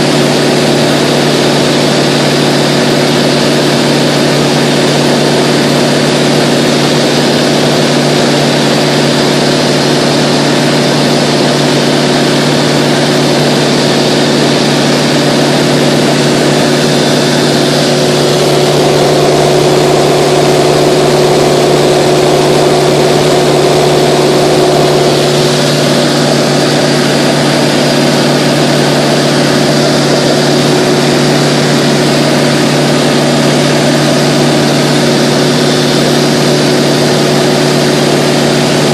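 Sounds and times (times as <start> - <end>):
aircraft engine and propeller droning: 0.0 - 38.9.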